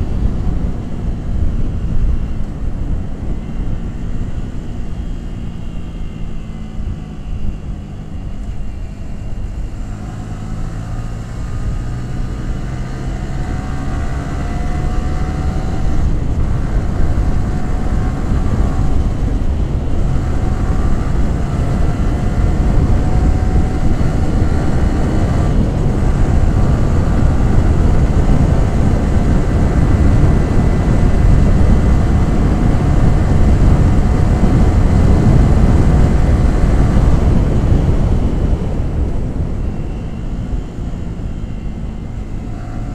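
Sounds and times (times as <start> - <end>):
motorcycle engine accelerating: 0.0 - 42.9
rushing wind: 0.0 - 42.9.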